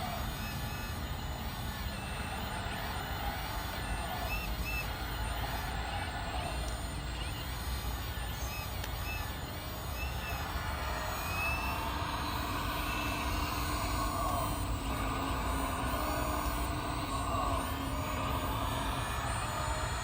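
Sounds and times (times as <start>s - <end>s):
toy excavator motor whining: 3.8s - 20.0s.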